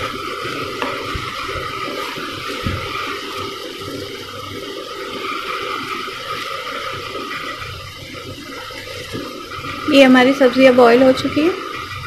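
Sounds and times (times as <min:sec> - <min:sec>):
potatoes simmering in a pan: 0:00.0 - 0:12.0
steady hiss: 0:00.0 - 0:12.0
wooden spatula stirring: 0:00.0 - 0:12.0.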